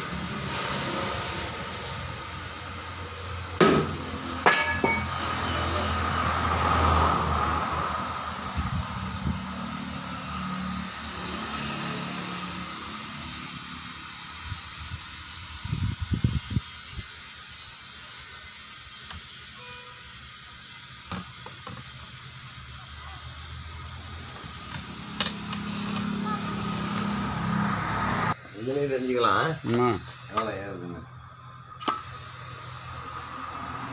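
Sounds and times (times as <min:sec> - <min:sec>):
compressed air hissing: 0:00.0 - 0:30.8, 0:31.8 - 0:33.9.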